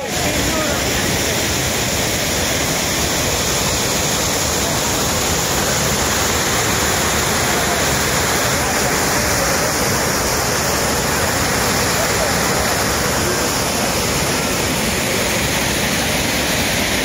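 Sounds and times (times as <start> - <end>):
water churning in pool: 0.0 - 17.0
water gushing from dam outlet: 0.0 - 17.0.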